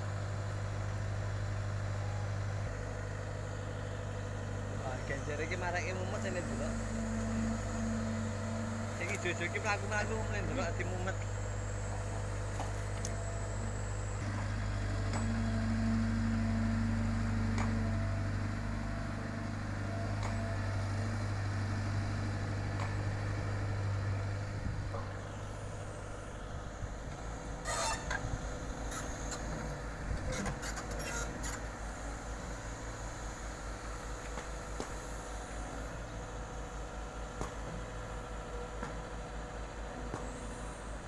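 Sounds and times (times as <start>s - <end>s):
construction machinery diesel engine: 0.0s - 41.0s.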